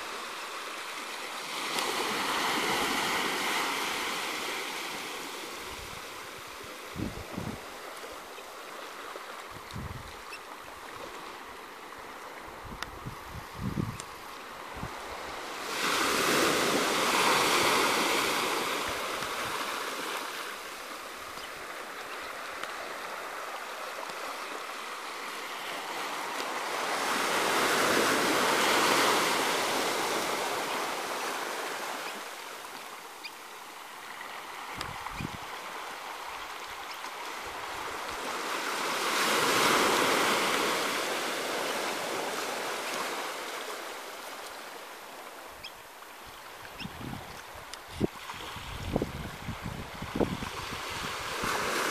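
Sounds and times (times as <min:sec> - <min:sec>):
small waves breaking: 0:00.0 - 0:51.9.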